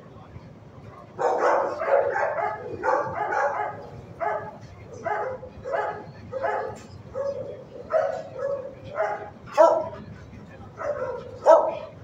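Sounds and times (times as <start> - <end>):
dog barking: 1.2 - 10.0, 10.8 - 12.0.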